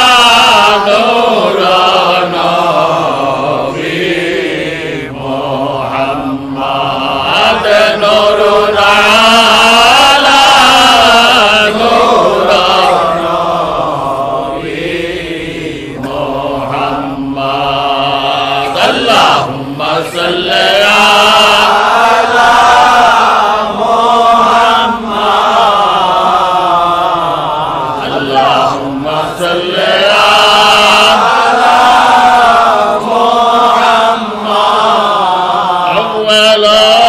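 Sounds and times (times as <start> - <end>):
men chanting: 0.0 - 37.0.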